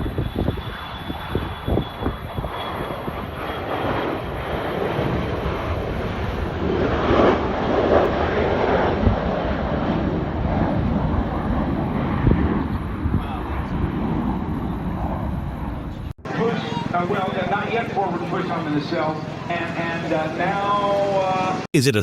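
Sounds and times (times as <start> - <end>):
aircraft engine rushing: 0.0 - 22.0.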